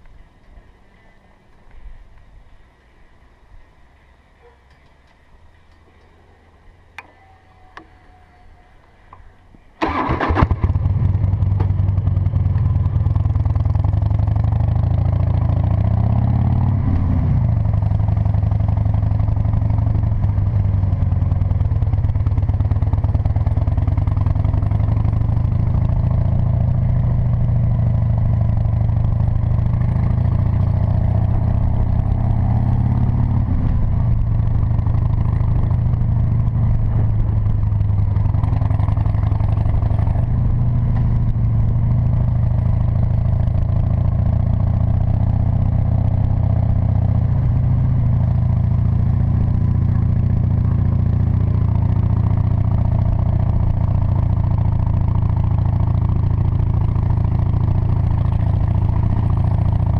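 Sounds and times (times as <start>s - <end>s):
motorcycle engine: 8.9s - 59.9s.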